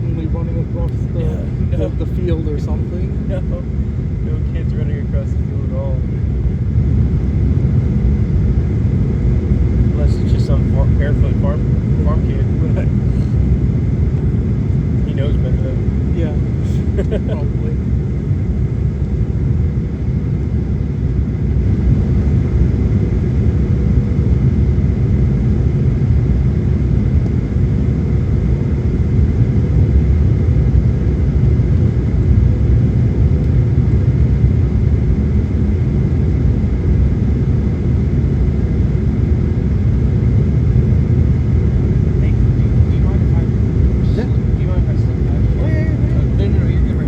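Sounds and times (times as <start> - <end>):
faint steady whine: 0.0 - 47.0
jet engine cabin rumble: 0.0 - 47.0.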